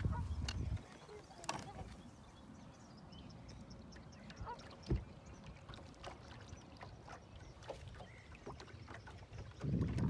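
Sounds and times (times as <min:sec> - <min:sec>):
small waves lapping against boat hull: 0:00.0 - 0:10.0.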